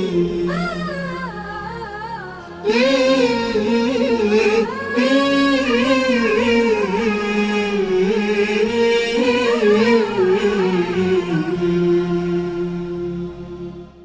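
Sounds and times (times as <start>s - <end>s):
person singing wavering melody: 0.0s - 14.0s.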